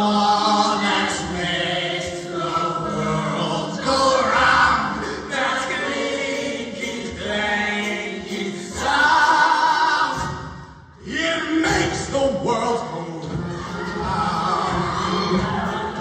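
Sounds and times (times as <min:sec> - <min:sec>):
choir singing in harmony: 0:00.0 - 0:12.0, 0:12.8 - 0:16.0.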